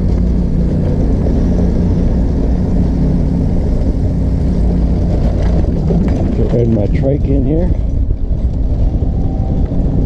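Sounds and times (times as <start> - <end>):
motor trike engine rumbling: 0.0 - 10.0.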